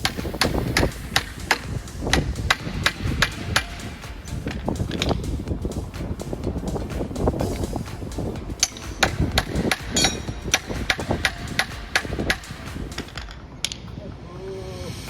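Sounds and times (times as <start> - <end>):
rapid hammer blows: 0.0 - 13.4.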